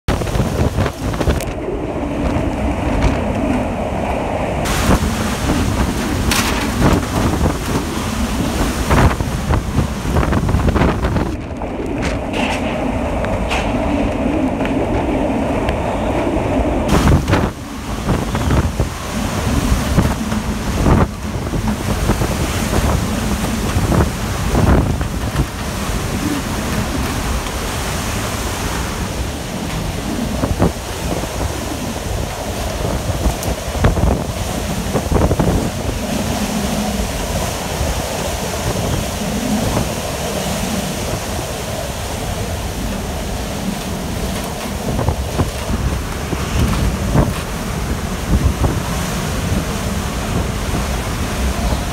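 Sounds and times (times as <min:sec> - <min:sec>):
hurricane wind rushing: 0:00.0 - 0:51.9
wind buffeting microphone: 0:00.0 - 0:51.9.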